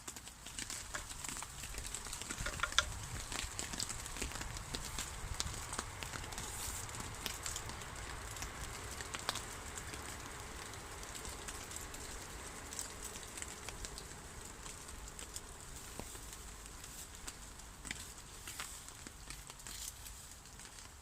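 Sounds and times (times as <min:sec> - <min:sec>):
campfire crackling: 0:00.0 - 0:21.0
fire hissing: 0:00.2 - 0:20.9.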